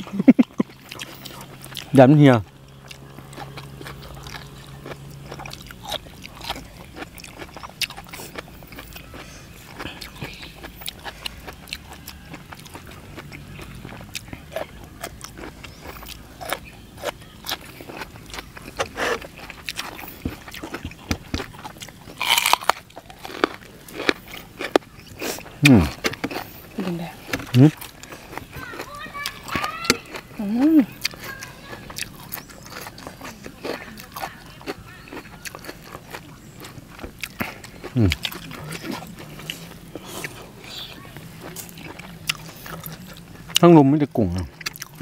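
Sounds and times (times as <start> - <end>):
crunchy vegetable chewing: 0.0 - 45.0.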